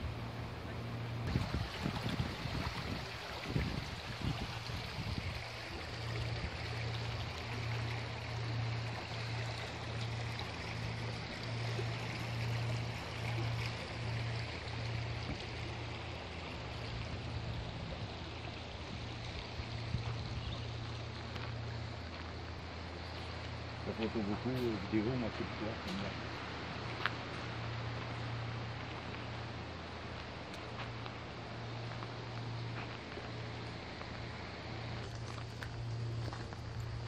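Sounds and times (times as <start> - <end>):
stream rushing over stones: 0.0 - 37.0.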